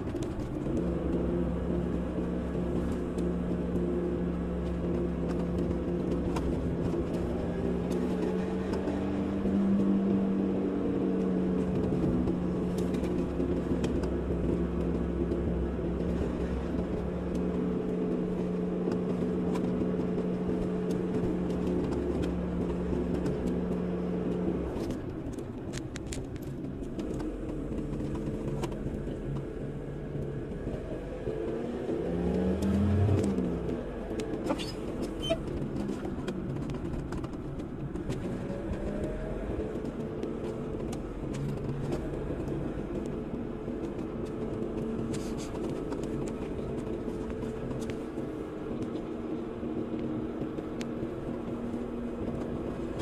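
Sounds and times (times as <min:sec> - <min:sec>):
car engine hum: 0:00.0 - 0:53.0
tyre road noise: 0:00.0 - 0:53.0.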